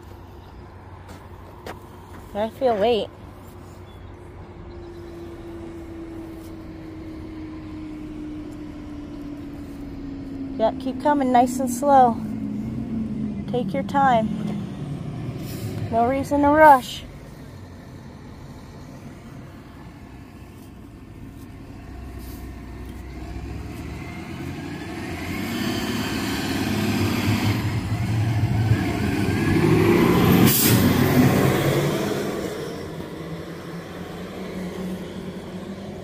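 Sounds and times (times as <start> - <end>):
truck passing by: 0.0 - 36.0.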